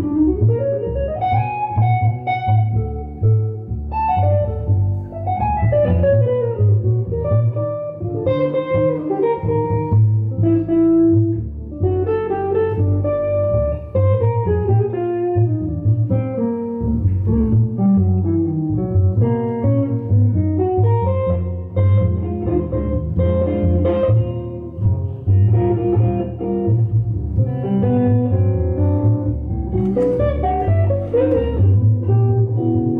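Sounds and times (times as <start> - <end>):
electric guitar jazz lines: 0.0 - 32.9
plucked double bass: 0.0 - 32.9.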